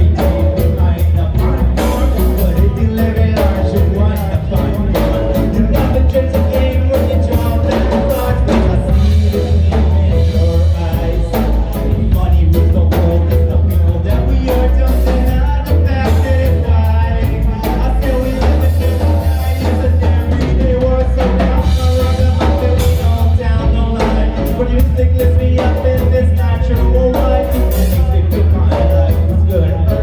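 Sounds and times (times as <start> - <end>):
drum kit beat: 0.0 - 30.0
live band playing: 0.0 - 30.0
loud bass line: 0.0 - 30.0.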